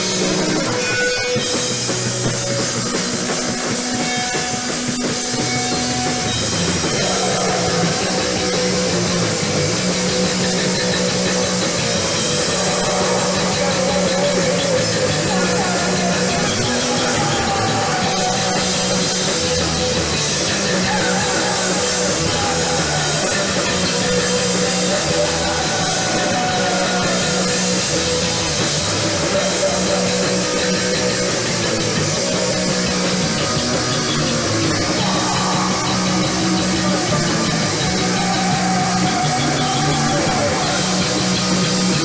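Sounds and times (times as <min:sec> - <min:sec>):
drum kit: 0:00.0 - 0:42.0
electric guitar: 0:00.0 - 0:42.0
rock band playing: 0:00.0 - 0:42.0.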